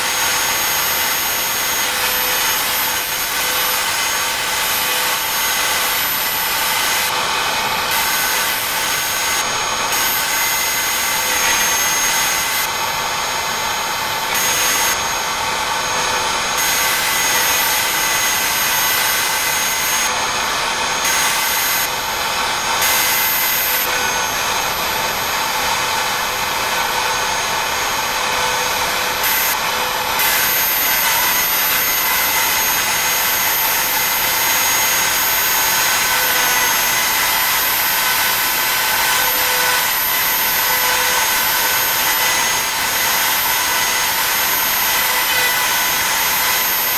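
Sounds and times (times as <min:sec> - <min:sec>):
bit cutting wood hiss: 0:00.0 - 0:12.8, 0:13.5 - 0:20.2, 0:20.8 - 0:24.6, 0:29.0 - 0:46.9
router spindle high whine: 0:00.0 - 0:46.9.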